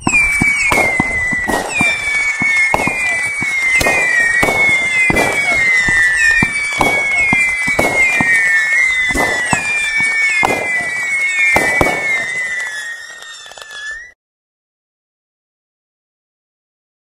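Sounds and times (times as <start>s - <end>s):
firework shots firing: 0.0s - 14.1s
shrill firework whistling: 0.0s - 14.2s.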